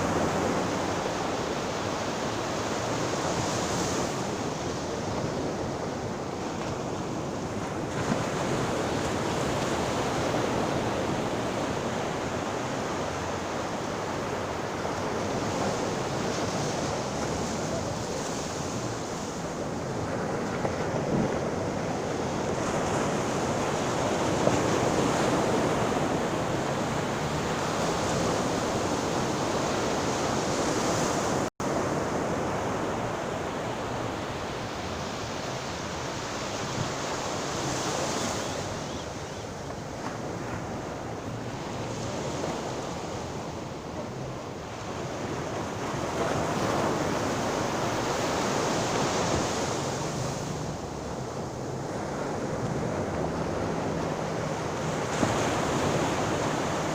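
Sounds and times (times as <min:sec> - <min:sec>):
ocean waves breaking: 0:00.0 - 0:56.9.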